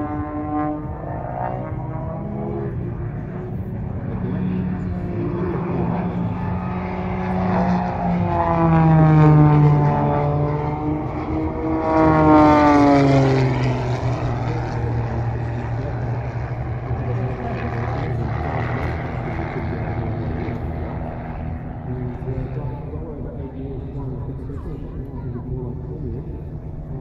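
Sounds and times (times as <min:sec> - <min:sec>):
propeller planes flying past: 0:00.0 - 0:27.0.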